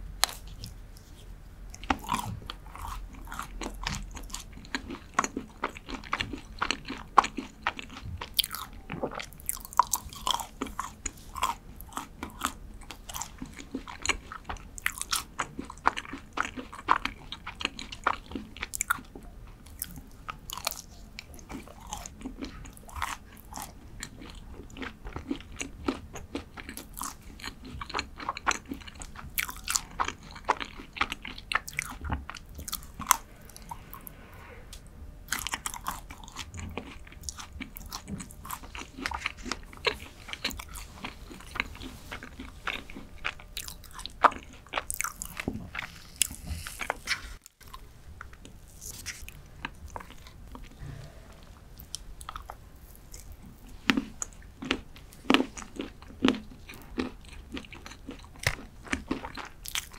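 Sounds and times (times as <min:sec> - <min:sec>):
chocolate biting and chewing: 0:01.7 - 0:34.0, 0:35.3 - 0:51.0, 0:51.8 - 0:59.9.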